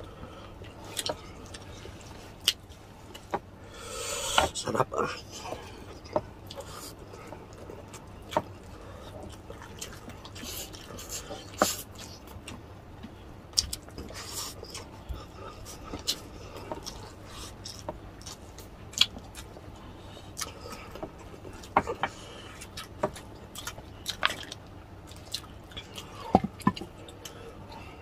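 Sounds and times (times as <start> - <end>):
people chewing with lip smacks: 0.0 - 3.5, 4.1 - 28.0.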